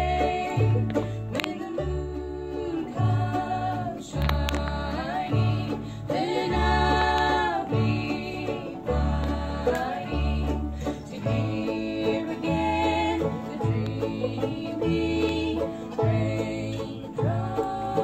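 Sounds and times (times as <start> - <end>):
acoustic guitar: 0.0 - 18.0
banjo: 0.0 - 18.0
mandolin: 0.0 - 18.0
upright bass: 0.0 - 18.0
women singing: 0.0 - 18.0.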